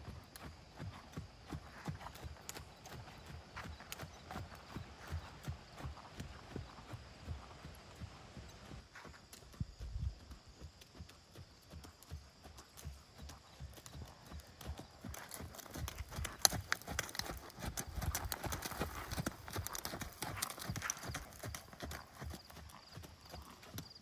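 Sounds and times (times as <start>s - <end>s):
horse hoofbeats on sand: 0.0s - 24.0s.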